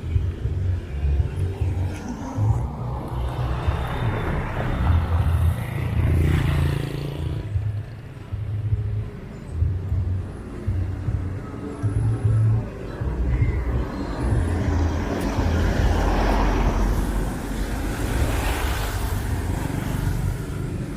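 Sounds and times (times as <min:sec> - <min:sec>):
low uneven traffic rumble: 0:00.0 - 0:20.9.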